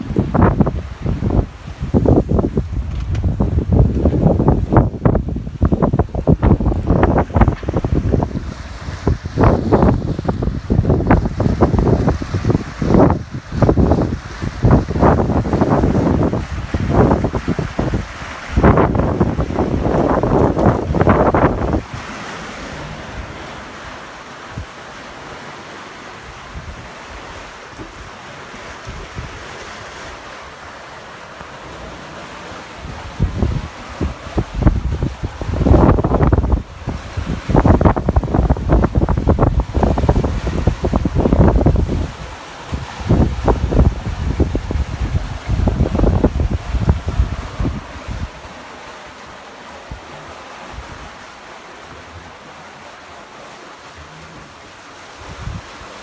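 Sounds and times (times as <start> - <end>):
wind buffeting microphone: 0.0 - 25.4, 31.6 - 52.6, 54.0 - 56.0
rushing wind and sea water: 0.0 - 56.0.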